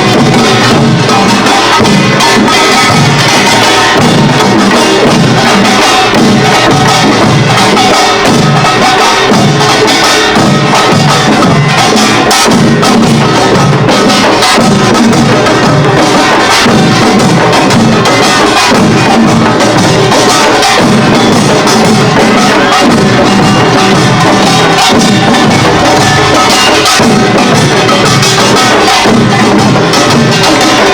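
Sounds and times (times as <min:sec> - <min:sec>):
drums in steady rhythm: 0:00.0 - 0:30.9
small gongs clanging: 0:00.0 - 0:30.9.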